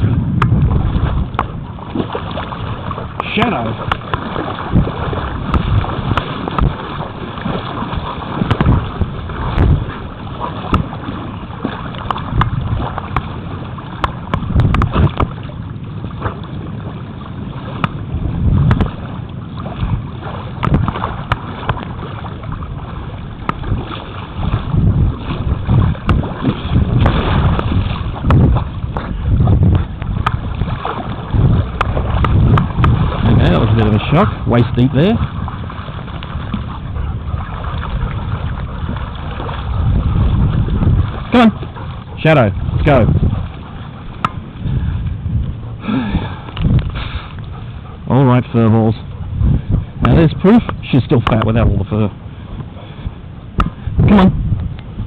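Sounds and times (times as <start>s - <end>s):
footsteps wading through water: 0.0s - 55.0s
wind buffeting microphone: 0.0s - 55.0s.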